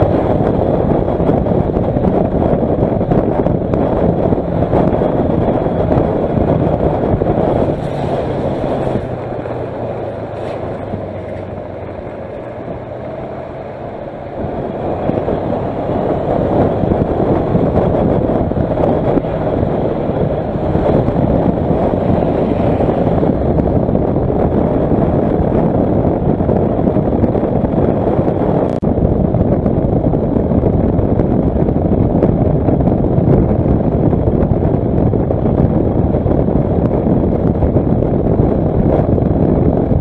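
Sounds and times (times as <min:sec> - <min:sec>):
motorcycle engine and tyre noise: 0:00.0 - 0:40.0
wind rush over microphone: 0:00.0 - 0:40.0.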